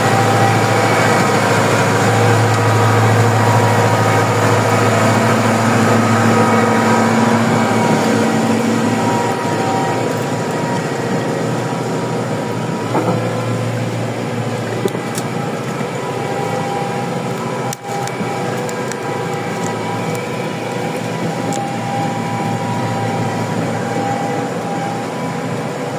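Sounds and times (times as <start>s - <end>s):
steady whine: 0.0s - 25.9s
tractor engine under load: 0.0s - 25.9s.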